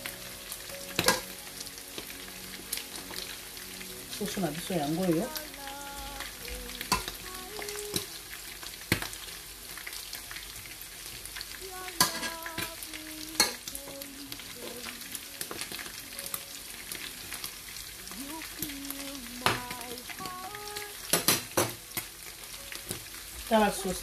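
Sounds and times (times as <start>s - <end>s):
chicken sizzling in a frying pan: 0.0s - 24.0s.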